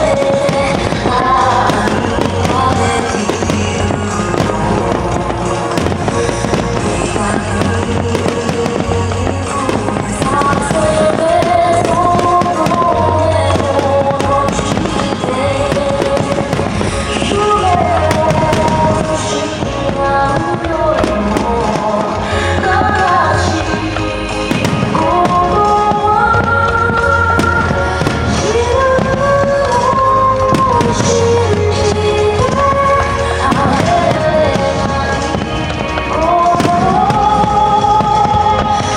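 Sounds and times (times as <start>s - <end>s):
fireworks bursting: 0.0s - 38.9s
music with sustained melody: 0.0s - 38.9s.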